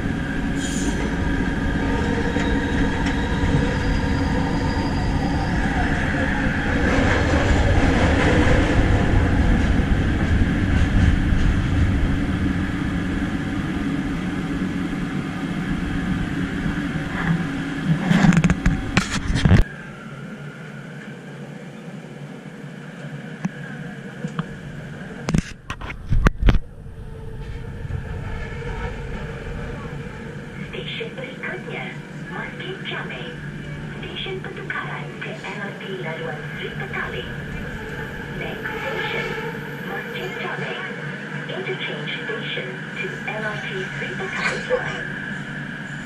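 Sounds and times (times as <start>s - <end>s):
metro train rumble: 0.0s - 46.0s.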